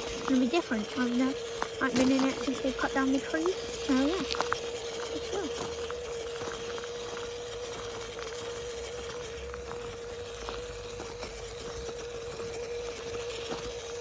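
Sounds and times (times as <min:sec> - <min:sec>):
electric motor whining: 0:00.0 - 0:14.0
tyres crackling over twigs: 0:00.0 - 0:14.0.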